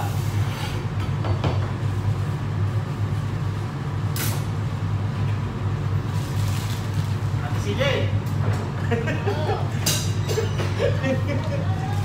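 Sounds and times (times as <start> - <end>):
extractor hood fan humming: 0.0 - 12.0.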